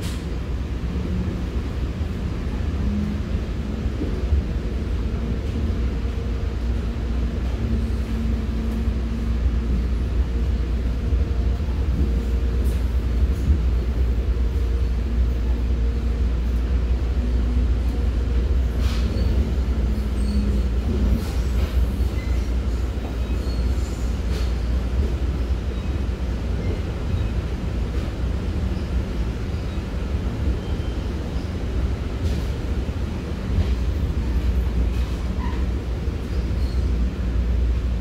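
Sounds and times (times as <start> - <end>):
train rumble inside passenger car: 0.0 - 38.0.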